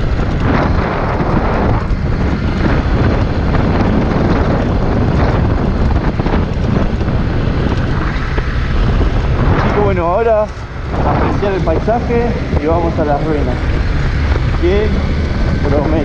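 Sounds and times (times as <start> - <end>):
motorcycle engine running low: 0.0 - 16.0
wind rush on microphone: 0.0 - 16.0.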